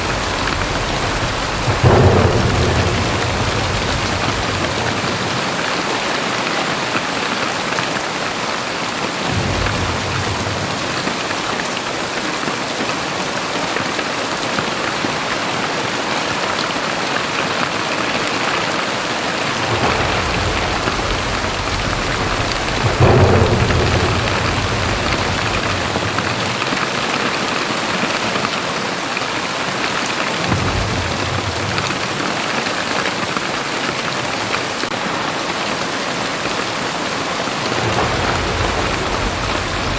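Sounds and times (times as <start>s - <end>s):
thunder rumbling: 0.0s - 12.9s, 18.0s - 28.4s, 30.0s - 39.9s
heavy rain pouring: 0.0s - 39.9s.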